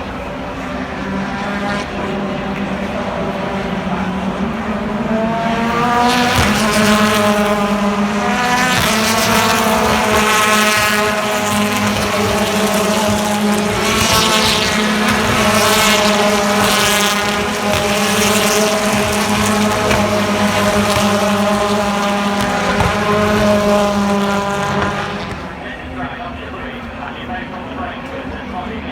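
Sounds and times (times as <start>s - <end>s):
racing car engines at full throttle: 0.0s - 28.9s.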